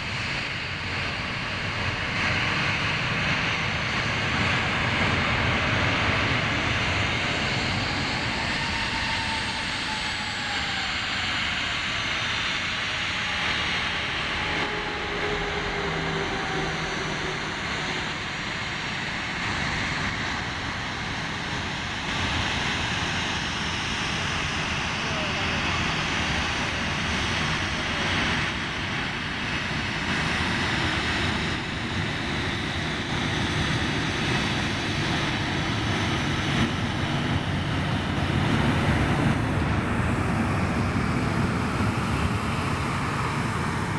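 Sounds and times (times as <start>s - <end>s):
jet engines roaring: 0.0s - 43.9s.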